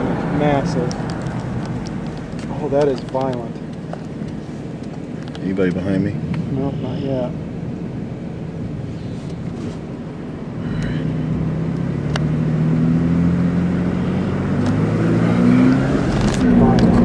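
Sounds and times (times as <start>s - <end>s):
car engine accelerating: 0.0s - 17.0s
road noise: 0.0s - 17.0s.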